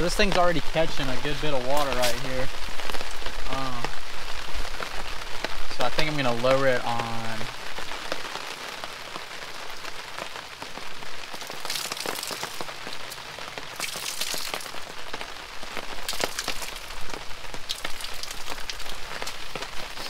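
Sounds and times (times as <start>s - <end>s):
rain pattering on a tarp: 0.0s - 20.0s.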